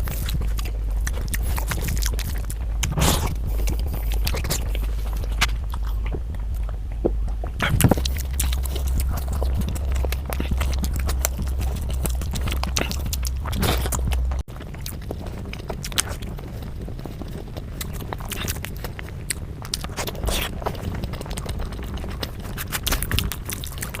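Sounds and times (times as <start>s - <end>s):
chewing and wet mouth sounds: 0.0s - 24.0s
low hum: 0.0s - 24.0s.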